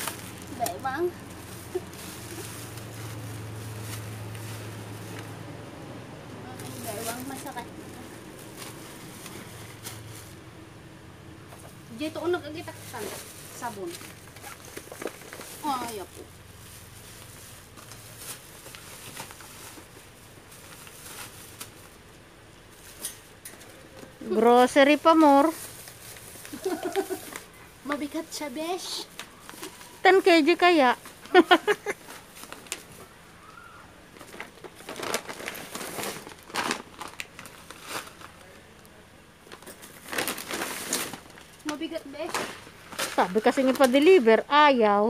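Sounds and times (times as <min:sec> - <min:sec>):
plastic bags rustling: 0:00.0 - 0:05.6, 0:06.4 - 0:10.6, 0:11.5 - 0:44.4.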